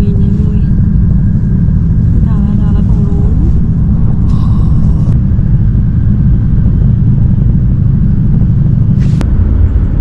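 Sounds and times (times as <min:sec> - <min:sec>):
train cabin low rumble: 0:00.0 - 0:10.0.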